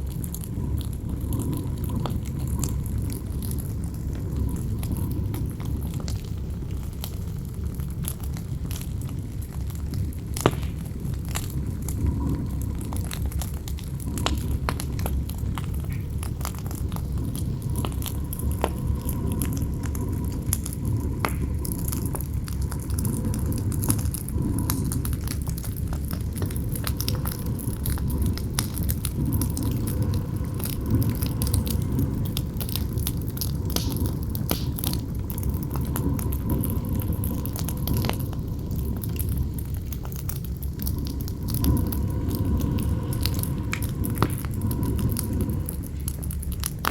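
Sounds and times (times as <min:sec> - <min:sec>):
campfire crackling and popping: 0:00.0 - 0:46.9
low rumble of wind: 0:00.0 - 0:46.9.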